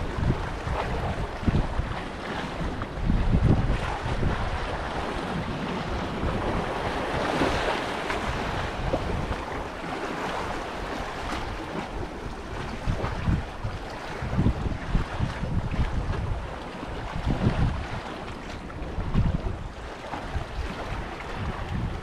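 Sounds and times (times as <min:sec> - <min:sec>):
waves washing: 0:00.0 - 0:22.0
wind buffeting microphone: 0:00.0 - 0:22.0.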